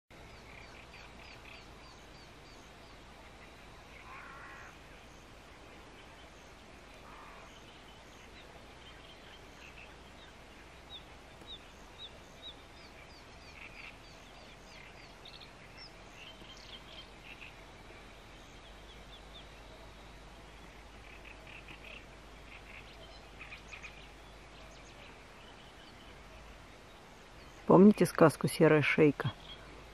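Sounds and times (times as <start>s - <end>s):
steady low hiss: 0.1s - 29.9s.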